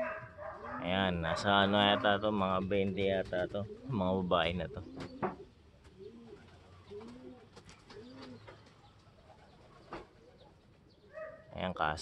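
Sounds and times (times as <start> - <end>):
pigeons cooing: 0.0 - 11.5.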